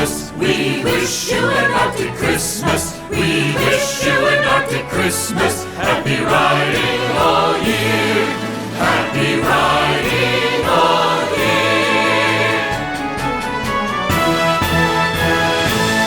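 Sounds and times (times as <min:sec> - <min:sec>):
choir singing: 0:00.0 - 0:13.8.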